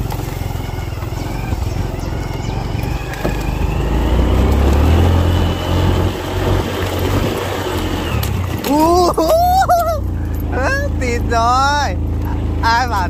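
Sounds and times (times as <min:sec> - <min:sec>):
motorbike engine under load: 0:00.0 - 0:11.0.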